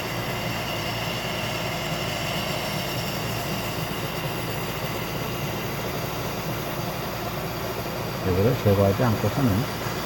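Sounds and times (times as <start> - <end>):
machine running with air hiss: 0.0 - 10.0.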